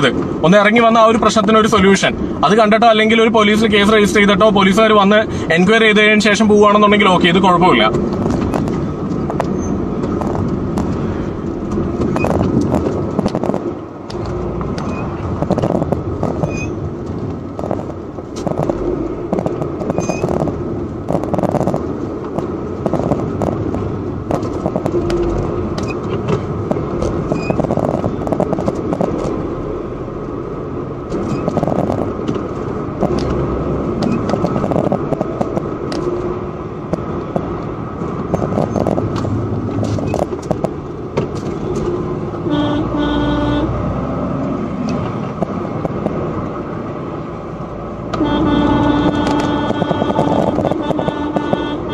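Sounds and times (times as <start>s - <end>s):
car road and engine noise: 0.0s - 51.9s.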